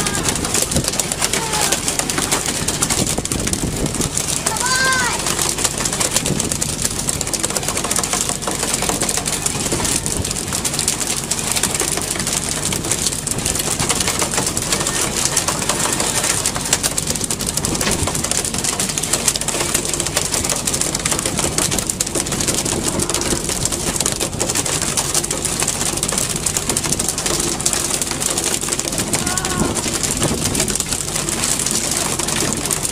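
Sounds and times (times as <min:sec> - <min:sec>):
boat engine running: 0:00.0 - 0:32.9
sea water rushing: 0:00.0 - 0:32.9.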